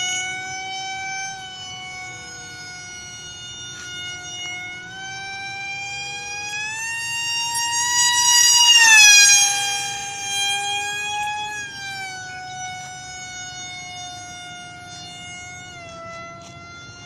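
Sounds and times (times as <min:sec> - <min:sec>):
model airplane motor whining: 0:00.0 - 0:17.0.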